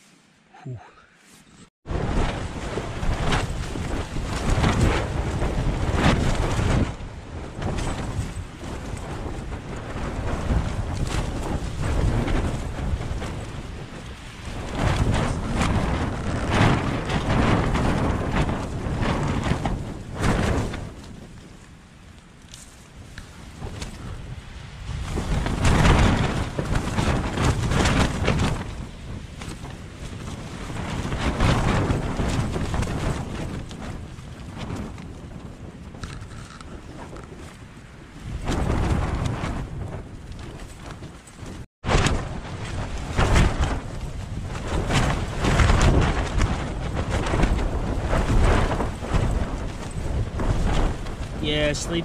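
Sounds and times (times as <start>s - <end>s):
strong wind gusts: 0.0s - 52.0s
wind rumbling on microphone: 0.0s - 52.0s
tent fabric flapping and snapping: 1.6s - 52.0s.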